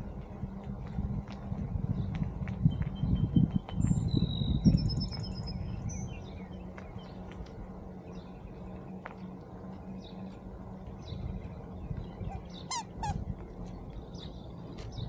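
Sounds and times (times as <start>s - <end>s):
low rumble: 0.0s - 15.0s
songbirds whistling and trilling: 1.8s - 9.3s, 9.9s - 15.0s.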